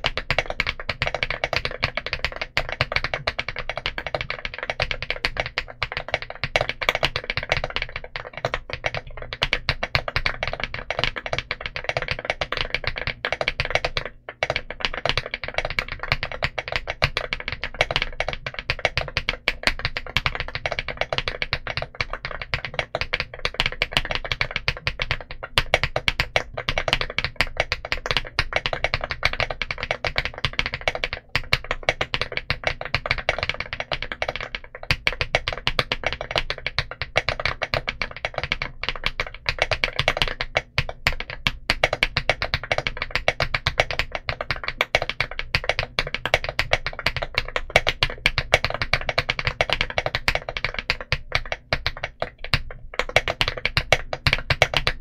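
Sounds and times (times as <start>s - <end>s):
mechanical keyboard typing: 0.0s - 55.0s.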